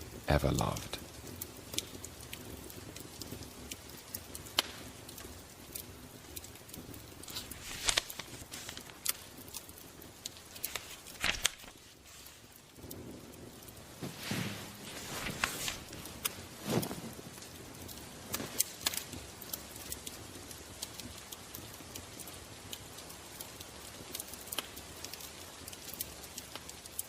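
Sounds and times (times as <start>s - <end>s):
crackles and snaps: 0.0s - 27.0s
faint steady background noise: 0.0s - 27.0s.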